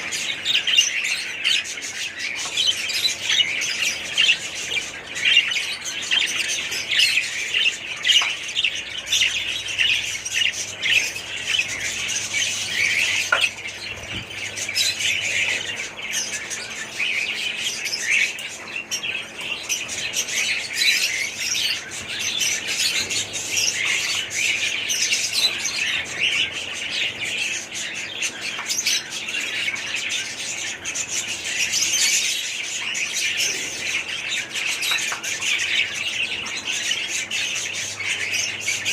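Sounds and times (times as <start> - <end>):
parrots chirping and squawking: 0.0 - 38.9.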